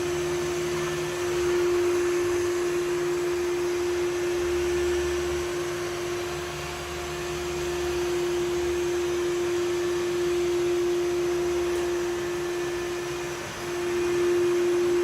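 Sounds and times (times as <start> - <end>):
robot vacuum motor whine: 0.0 - 15.0.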